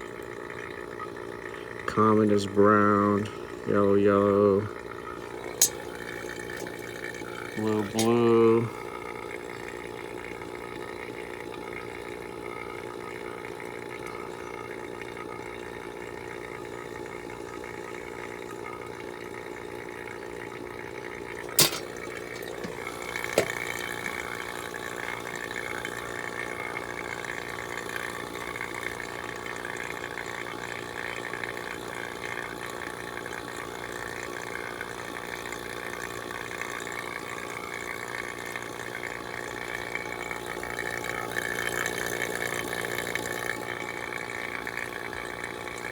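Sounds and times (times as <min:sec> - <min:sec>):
vacuum pump running: 0:00.0 - 0:45.9.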